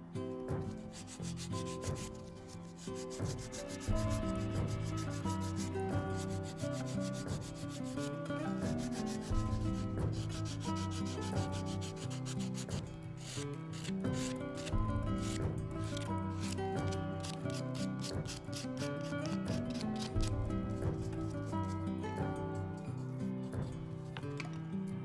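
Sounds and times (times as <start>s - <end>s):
sandpaper rubbing on wood: 0.7s - 21.9s.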